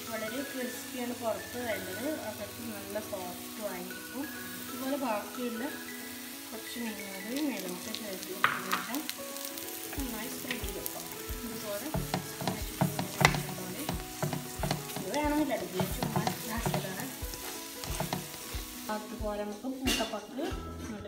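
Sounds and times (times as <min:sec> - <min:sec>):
food sizzling in hot oil: 0:00.0 - 0:20.5.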